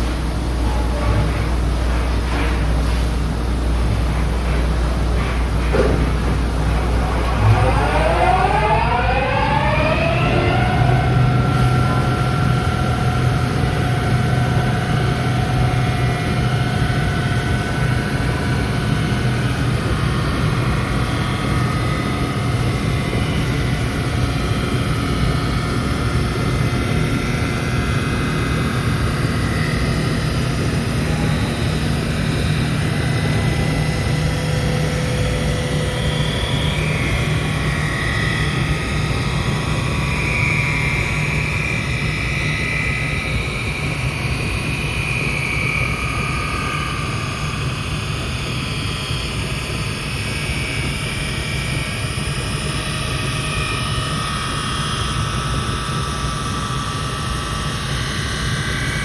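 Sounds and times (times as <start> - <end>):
motor whine spinning up: 5.7 - 59.0.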